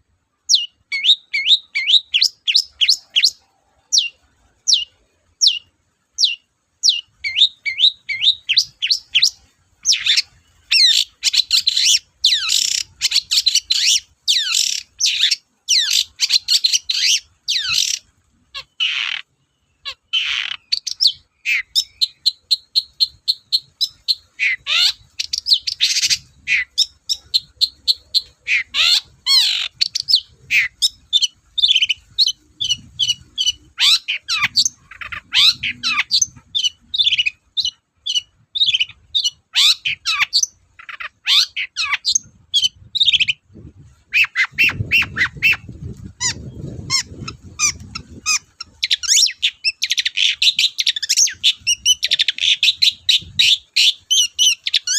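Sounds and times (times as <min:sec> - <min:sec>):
bird harsh squawks: 0:00.5 - 0:54.9
shrike singing: 0:00.5 - 0:54.9.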